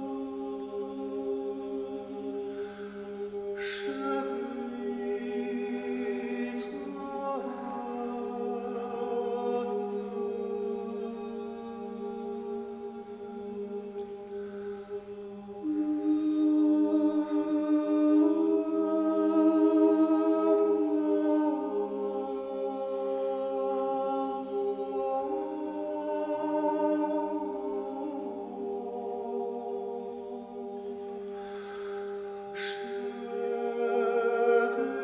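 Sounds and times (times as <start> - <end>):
wordless vocal line: 0.0 - 35.0.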